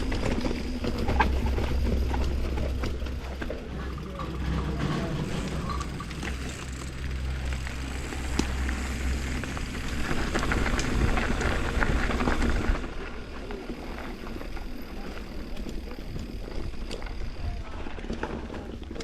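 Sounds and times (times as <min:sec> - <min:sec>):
dense crunching and rattling clicks: 0:00.0 - 0:19.0.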